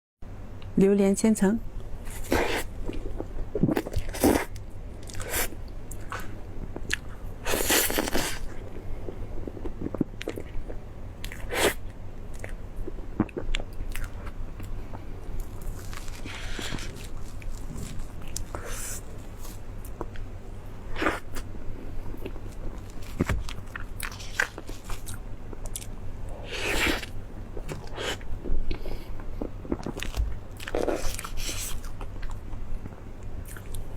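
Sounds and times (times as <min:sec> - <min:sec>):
person biting and chewing food: 0:02.1 - 0:08.6, 0:09.6 - 0:20.3, 0:20.9 - 0:21.5, 0:22.1 - 0:28.8, 0:29.4 - 0:32.4.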